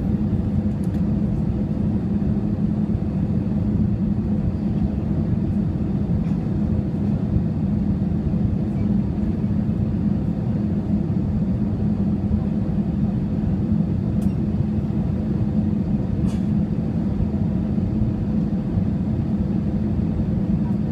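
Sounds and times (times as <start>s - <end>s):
jet cabin rumble: 0.0s - 20.9s.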